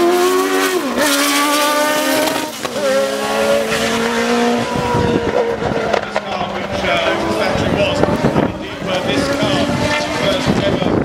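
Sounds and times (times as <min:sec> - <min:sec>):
racing car engine passing: 0:00.0 - 0:11.0.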